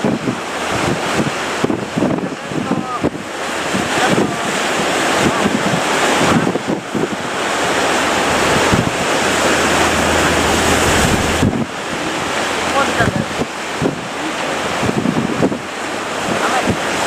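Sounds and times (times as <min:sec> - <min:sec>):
heavy surf breaking: 0:00.0 - 0:17.0
wind buffeting microphone: 0:00.0 - 0:17.0.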